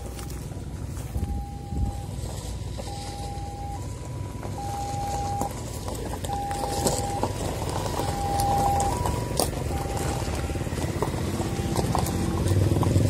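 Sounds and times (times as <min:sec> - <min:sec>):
vehicles rolling on gravel: 0:00.0 - 0:13.0
ambulance two-tone siren: 0:01.0 - 0:13.0.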